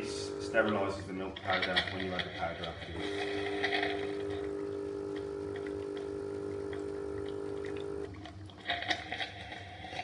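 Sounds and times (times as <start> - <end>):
formula machine electric hum: 0.0 - 10.0.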